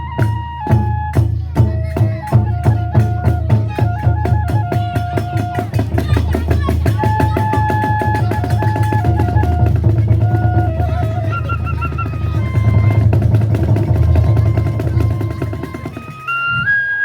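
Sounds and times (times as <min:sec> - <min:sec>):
taiko drum strokes: 0:00.0 - 0:16.6
flute melody: 0:00.0 - 0:17.0.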